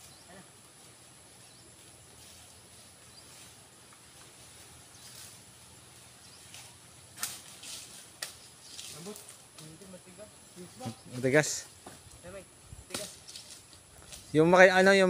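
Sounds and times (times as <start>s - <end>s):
rustles: 0.0s - 15.0s.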